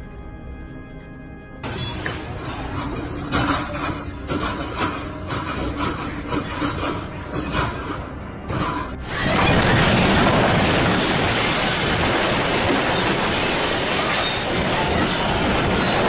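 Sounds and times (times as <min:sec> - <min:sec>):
building rattling and rumbling: 0:01.6 - 0:16.0.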